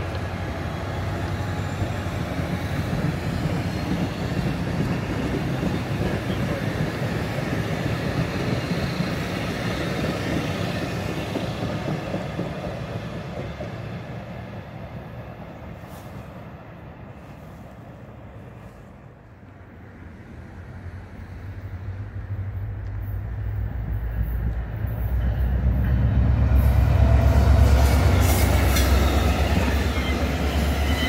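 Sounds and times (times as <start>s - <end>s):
train rumbling along track: 0.0s - 31.0s.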